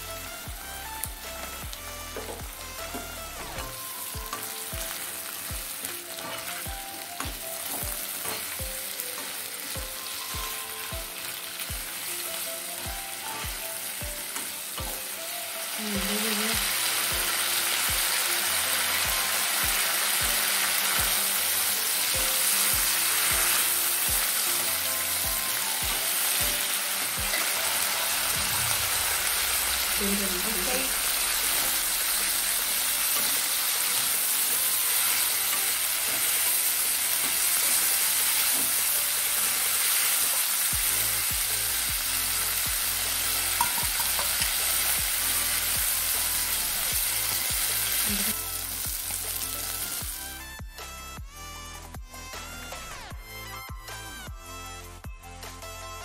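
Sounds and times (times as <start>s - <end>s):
background music with low beat: 0.0s - 12.1s, 22.1s - 39.5s, 40.4s - 56.0s
prawns sizzling in oil: 0.0s - 50.4s.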